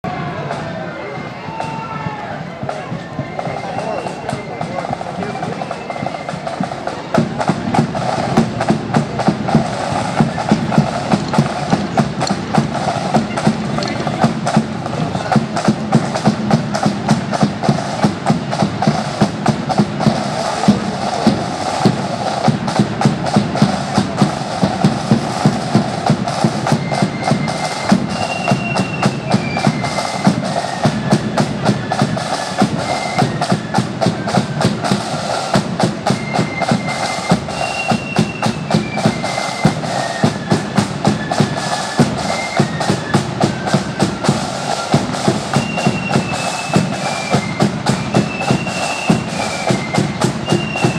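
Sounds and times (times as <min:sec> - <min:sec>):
bass drum marching beat: 0:00.0 - 0:50.9
flute melody: 0:00.0 - 0:50.9
rattling snare drums: 0:00.1 - 0:50.9.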